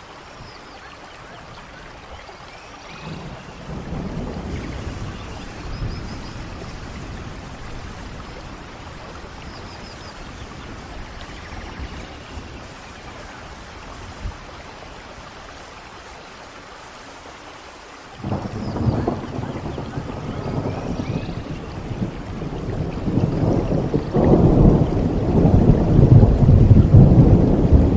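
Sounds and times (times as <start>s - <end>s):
heavy rain falling: 0.0s - 27.9s
thunder rumble: 2.9s - 16.1s, 18.2s - 27.9s.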